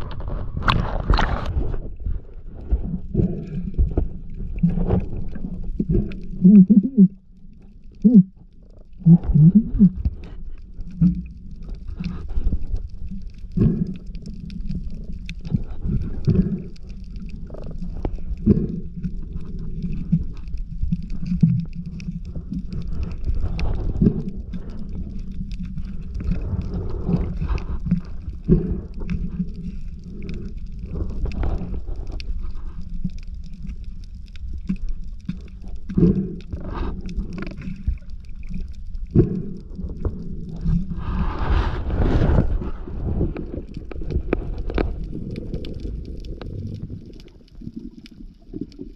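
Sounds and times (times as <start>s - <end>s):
faint crackling: 0.0s - 48.9s
low underwater rumble: 0.0s - 48.9s.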